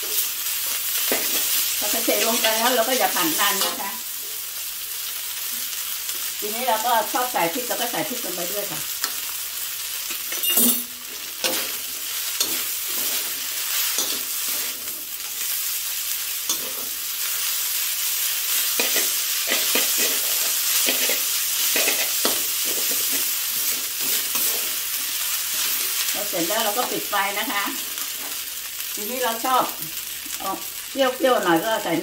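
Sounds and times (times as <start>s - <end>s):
noodles sizzling in a wok: 0.0s - 32.0s.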